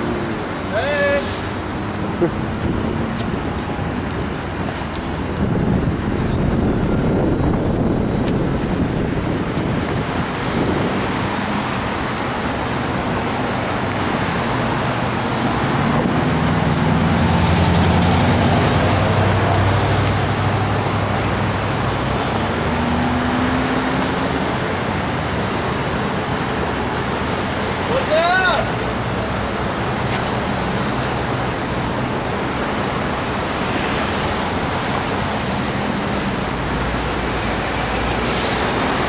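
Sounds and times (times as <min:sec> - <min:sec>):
road traffic passing: 0:00.0 - 0:39.0
vehicle engine: 0:00.0 - 0:39.0.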